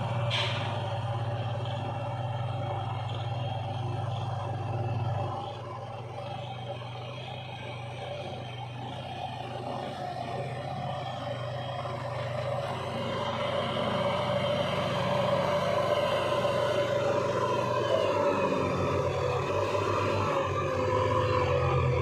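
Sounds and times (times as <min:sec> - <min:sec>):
heavy diesel engine under load: 0:00.0 - 0:22.0.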